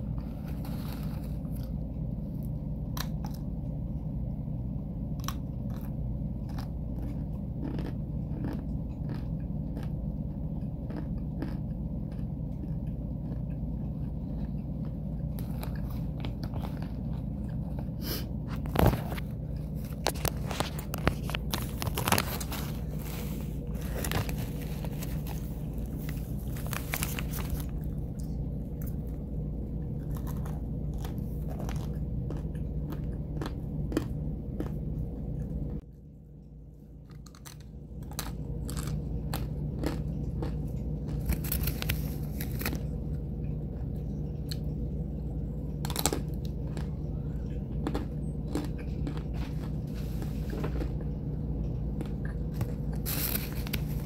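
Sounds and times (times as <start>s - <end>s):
chewing and crunching: 0.0s - 54.0s
steady low hum: 0.0s - 54.0s.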